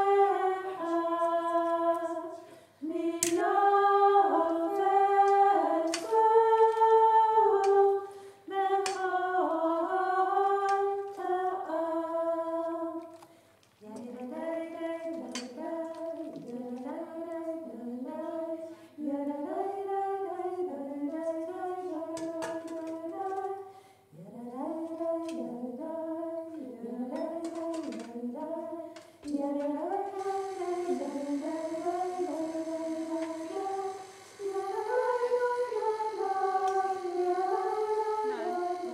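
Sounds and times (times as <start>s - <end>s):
woman singing unaccompanied: 0.0s - 13.2s, 13.8s - 38.9s.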